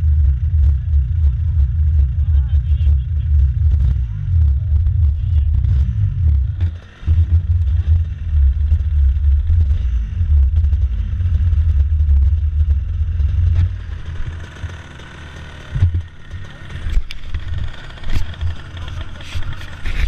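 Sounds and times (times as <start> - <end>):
kart engine idling: 0.0 - 20.0.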